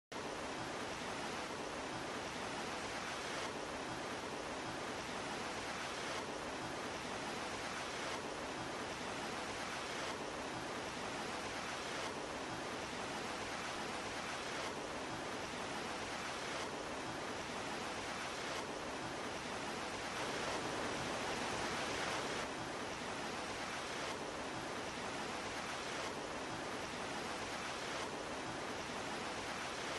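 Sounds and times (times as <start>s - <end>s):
steady hiss-like noise: 0.1s - 29.9s.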